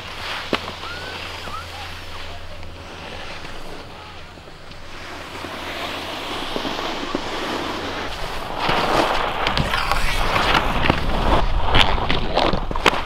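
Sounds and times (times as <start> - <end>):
skis scraping over snow: 0.0 - 13.0
wind rumble on microphone: 0.0 - 13.0.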